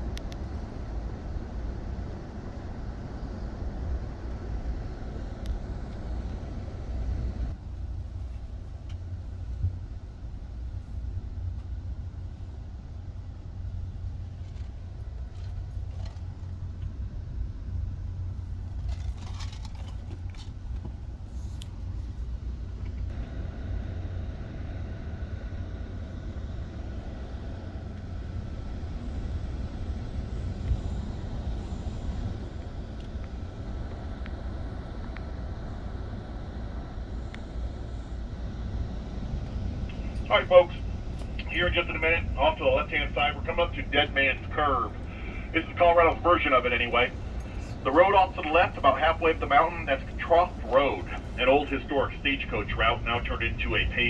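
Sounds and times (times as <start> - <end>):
moving train rumble: 0.0 - 54.0.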